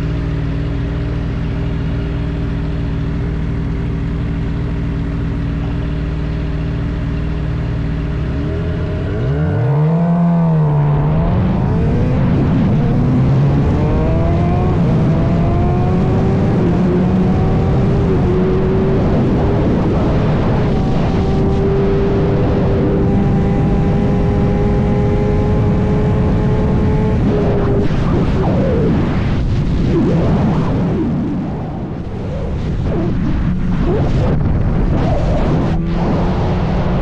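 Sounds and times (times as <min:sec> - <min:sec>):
motorcycle engine revving: 0:00.0 - 0:29.2, 0:31.5 - 0:37.0.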